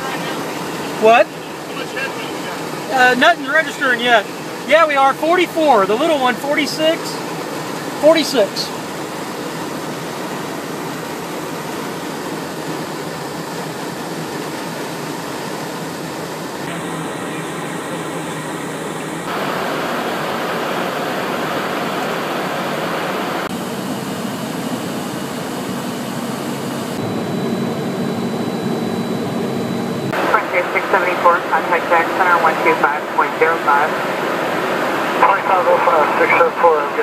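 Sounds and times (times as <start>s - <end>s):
heavy rain and wind on aircraft: 0.0s - 37.0s
jet engines and airflow in cabin: 0.0s - 37.0s.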